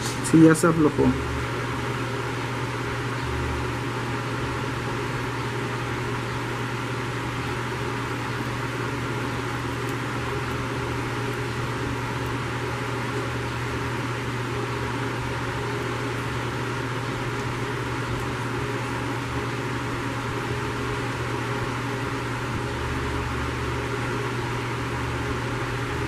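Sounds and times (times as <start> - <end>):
hot-air station fan hiss: 0.0 - 26.0.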